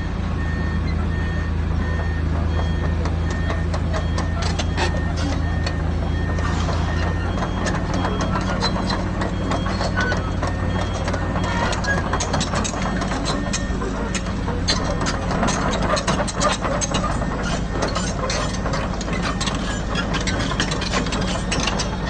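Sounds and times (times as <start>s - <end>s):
diesel machinery running: 0.0s - 22.0s
reversing beeper: 0.0s - 22.0s
metallic clanks and knocks: 2.0s - 22.0s.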